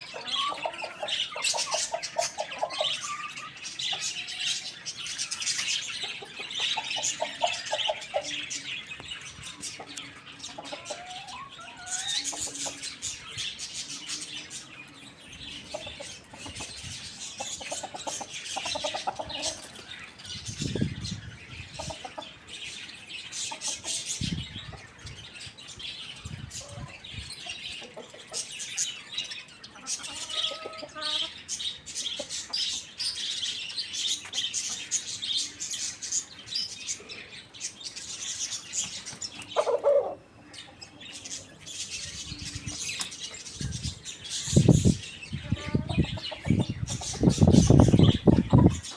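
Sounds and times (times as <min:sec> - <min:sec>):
chickens clucking: 0:00.0 - 0:48.9
small birds chirping: 0:00.0 - 0:48.9.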